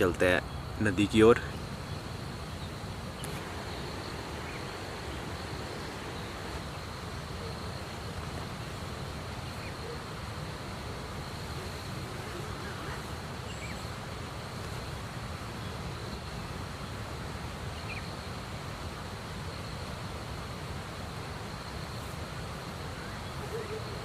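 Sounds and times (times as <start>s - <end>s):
high insect trill: 0.0s - 24.0s
river rushing: 0.0s - 24.0s.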